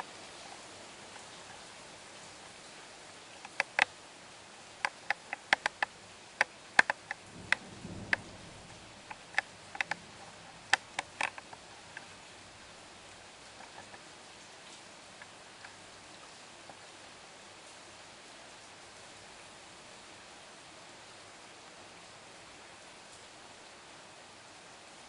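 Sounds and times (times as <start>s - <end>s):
faint steady hiss: 0.0s - 25.0s
rain ticking on hard surface: 0.0s - 25.0s.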